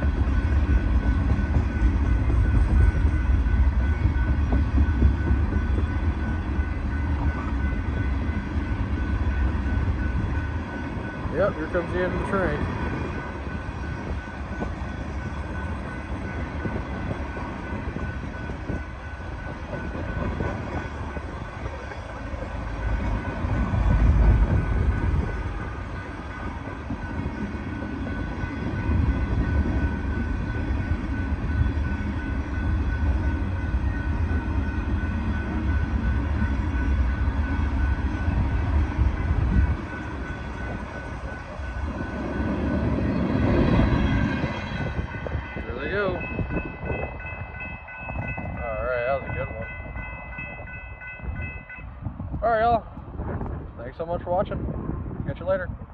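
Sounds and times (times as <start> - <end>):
freight cars rumbling over rails: 0.0 - 55.9.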